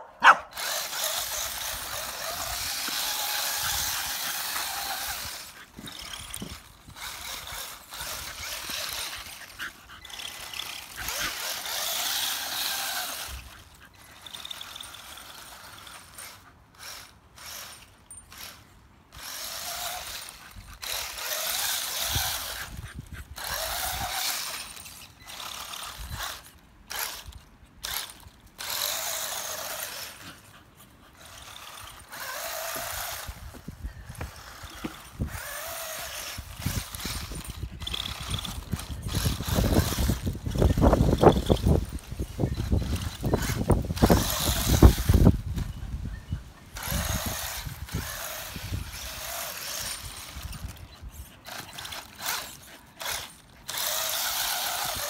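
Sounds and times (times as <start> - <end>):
toy car motor whirring: 0.2 - 55.0.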